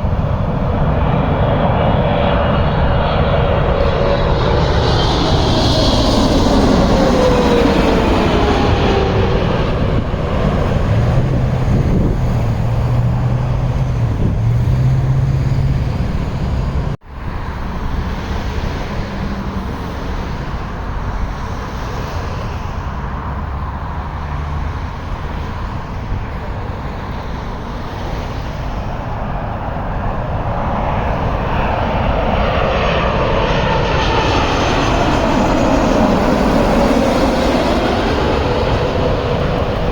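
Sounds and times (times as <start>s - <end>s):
jet airliners passing overhead: 0.0s - 39.9s.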